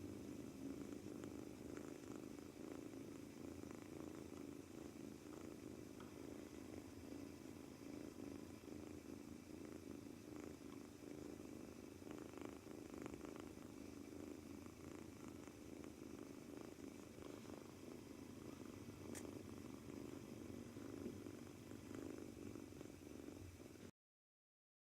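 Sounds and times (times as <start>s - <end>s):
kitten purring: 0.0s - 23.9s.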